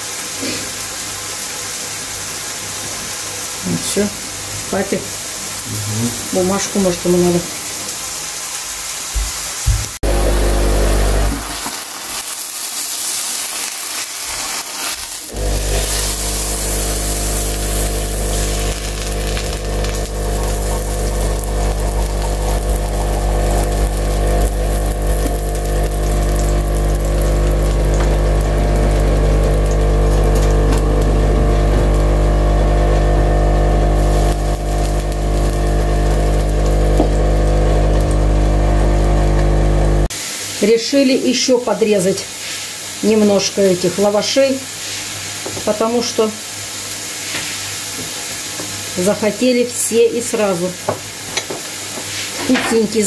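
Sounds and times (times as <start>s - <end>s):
food sizzling in oil: 0.0s - 53.0s.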